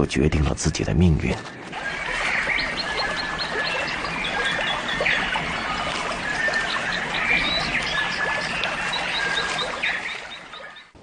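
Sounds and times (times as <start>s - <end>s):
sweeping calls: 1.7s - 11.0s.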